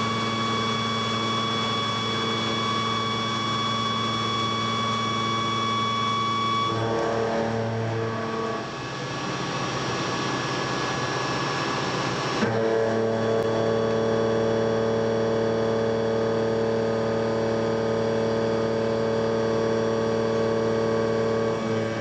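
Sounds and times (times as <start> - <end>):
milling machine cutting metal: 0.0 - 22.0.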